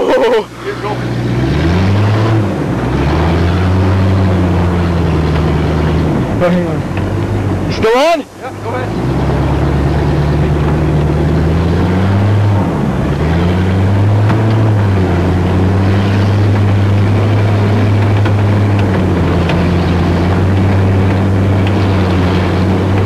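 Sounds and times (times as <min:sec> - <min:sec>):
car engine and exhaust drone: 0:00.0 - 0:23.0.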